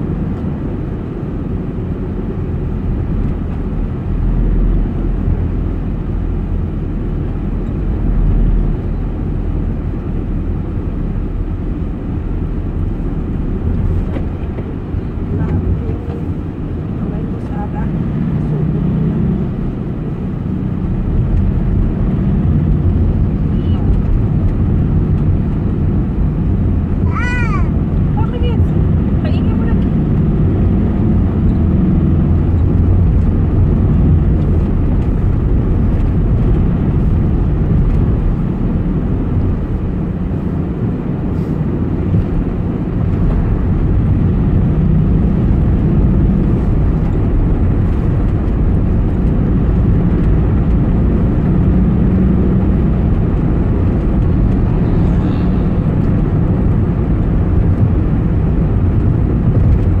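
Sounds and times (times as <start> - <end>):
vehicle engine and tyres rumbling: 0.0 - 60.0.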